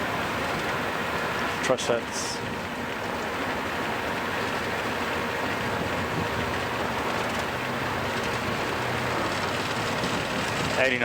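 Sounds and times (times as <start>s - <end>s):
aircraft rumbling down runway: 0.0s - 11.0s
jet engines at takeoff thrust: 0.0s - 11.0s.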